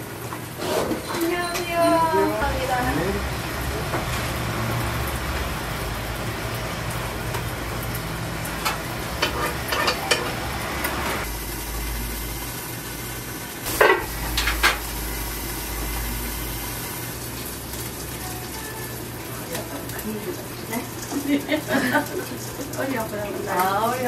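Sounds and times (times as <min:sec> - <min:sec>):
steady sizzling hiss: 0:04.4 - 0:24.0.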